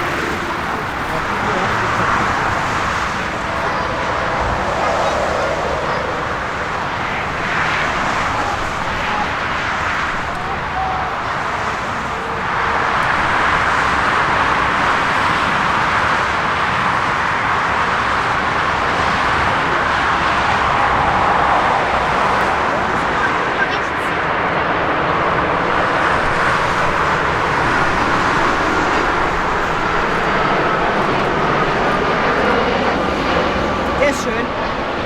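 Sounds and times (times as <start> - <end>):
steady engine noise: 0.0 - 35.0.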